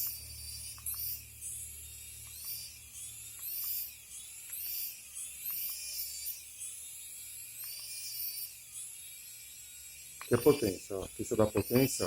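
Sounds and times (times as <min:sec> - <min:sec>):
toy helicopter motors whining: 0:00.0 - 0:12.0.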